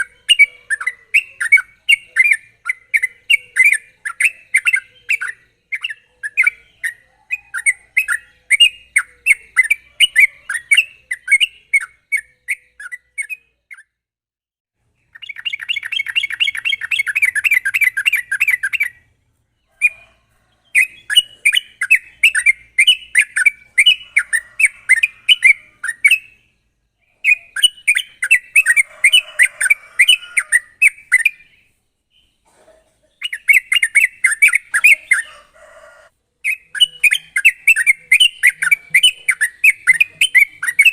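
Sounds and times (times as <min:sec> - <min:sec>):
bulbul chattering song: 0:00.0 - 0:14.0, 0:14.8 - 0:40.9
fast bird trill: 0:00.0 - 0:14.0, 0:15.0 - 0:19.1, 0:19.7 - 0:26.4, 0:27.1 - 0:31.6, 0:33.2 - 0:35.5, 0:36.4 - 0:40.9.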